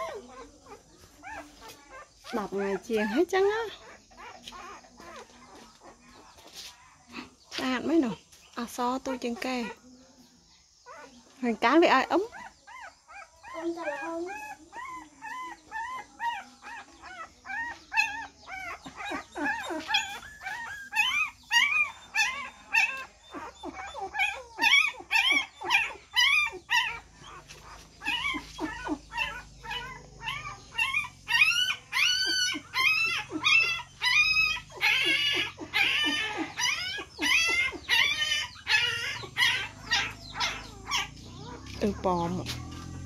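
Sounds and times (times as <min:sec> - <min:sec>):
puppies squealing and whimpering: 0:00.0 - 0:43.0.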